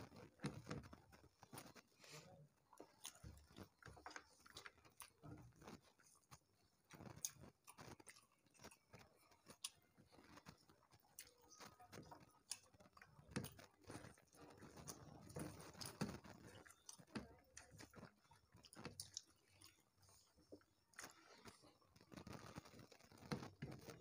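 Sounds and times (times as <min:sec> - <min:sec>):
soft clicks of fingers mixing rice: 0:00.0 - 0:24.0
chewing and mouth smacks: 0:02.6 - 0:24.0.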